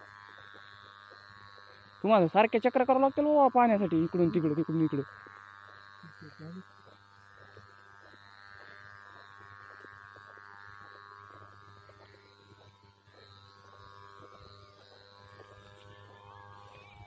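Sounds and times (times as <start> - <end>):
footsteps through a crop field: 0.0 - 2.9, 3.5 - 17.0
faint steady buzz: 0.0 - 17.0.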